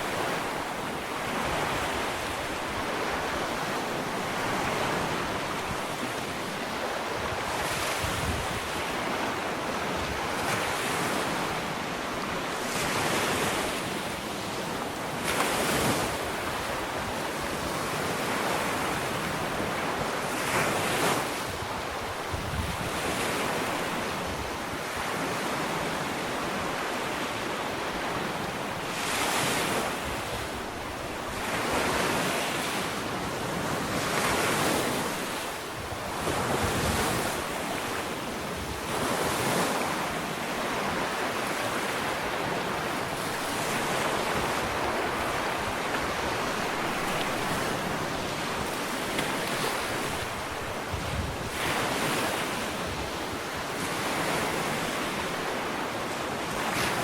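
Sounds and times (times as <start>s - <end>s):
wind on microphone: 0.0s - 14.1s, 15.3s - 57.0s
ocean waves breaking on beach: 0.0s - 57.0s.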